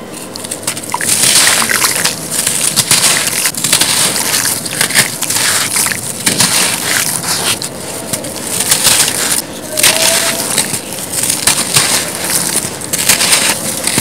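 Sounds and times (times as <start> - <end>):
crumbs dropping into wet slurry: 0.3 - 14.0
hands crushing cement block: 0.4 - 14.0.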